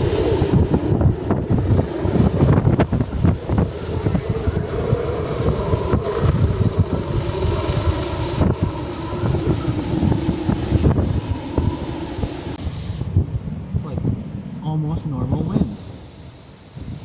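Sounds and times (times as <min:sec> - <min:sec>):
hiss of wind: 0:00.0 - 0:17.0
wind gusts buffeting microphone: 0:00.0 - 0:17.0.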